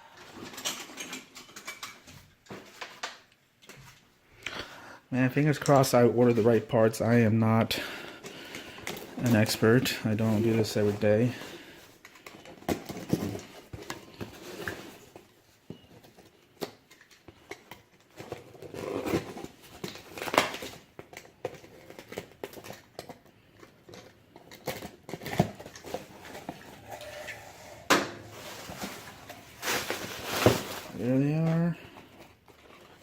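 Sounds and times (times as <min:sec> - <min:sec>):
cardboard and packing rustling: 0:00.0 - 0:04.1, 0:05.4 - 0:33.0.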